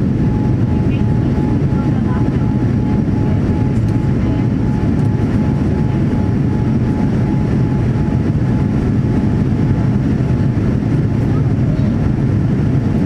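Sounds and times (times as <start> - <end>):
airplane cabin engine noise: 0.0 - 13.0.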